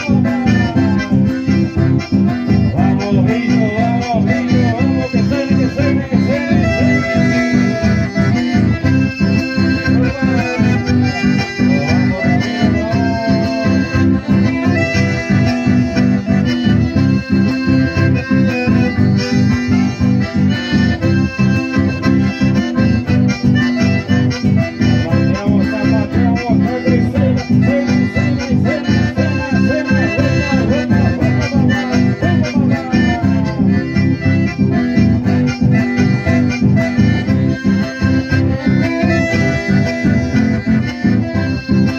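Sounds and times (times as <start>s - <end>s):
acoustic guitars strumming: 0.0s - 41.9s
button accordions playing melody: 0.0s - 41.9s.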